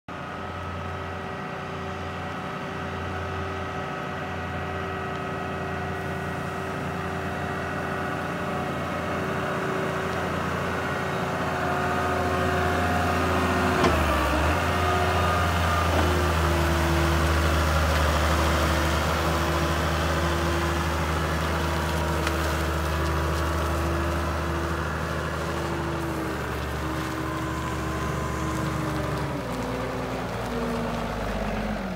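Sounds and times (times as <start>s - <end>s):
forklift diesel engine running: 0.1s - 31.9s.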